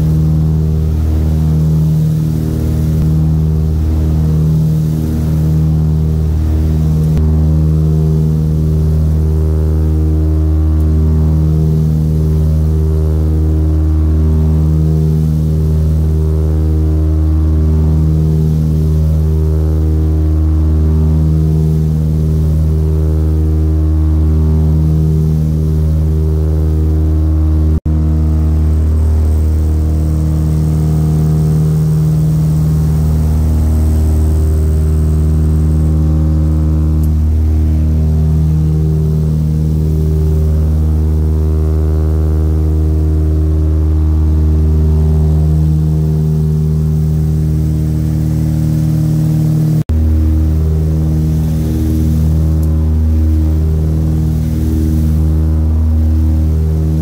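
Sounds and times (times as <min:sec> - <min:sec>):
aircraft engines droning in cabin: 0:00.0 - 0:57.0.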